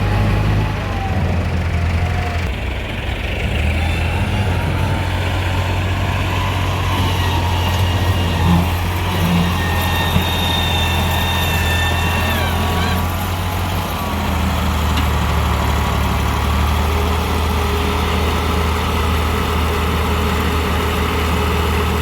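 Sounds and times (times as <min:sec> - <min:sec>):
diesel machinery engines running: 0:00.0 - 0:22.0.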